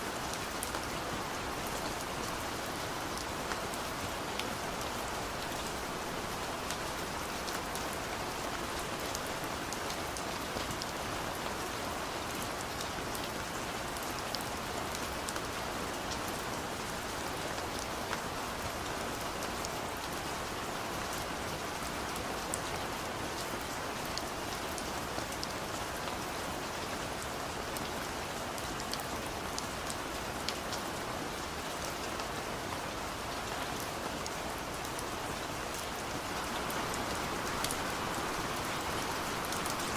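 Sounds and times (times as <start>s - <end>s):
rain falling on a car: 0.0s - 39.9s.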